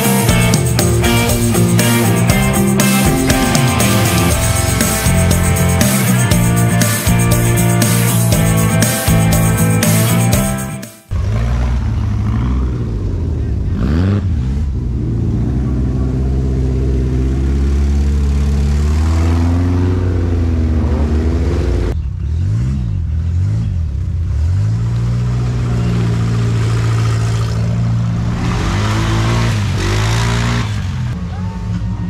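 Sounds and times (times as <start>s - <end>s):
quad bike engine: 0.0s - 10.5s, 11.1s - 32.0s
buggy engines revving: 0.0s - 32.0s.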